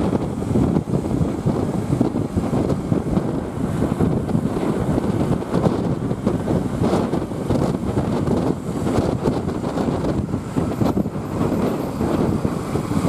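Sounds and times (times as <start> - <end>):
road traffic rumble: 0.0 - 13.0
wind buffeting microphone: 0.0 - 13.0.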